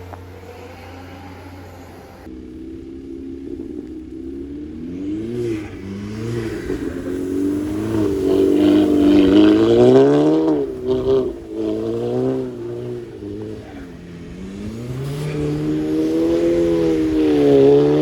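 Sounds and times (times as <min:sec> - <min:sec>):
car engine revving: 0:00.0 - 0:18.0
exhaust crackles and pops: 0:00.0 - 0:18.0.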